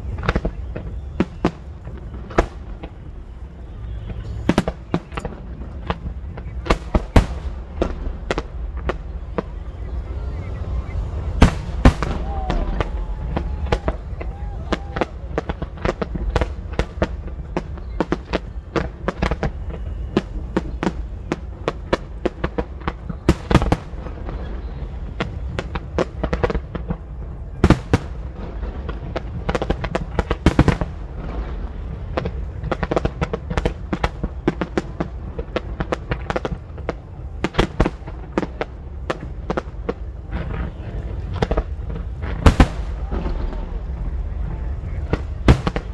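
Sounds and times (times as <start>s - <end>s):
deep fireworks rumble: 0.0s - 45.9s
firework bangs and crackles: 0.0s - 45.9s.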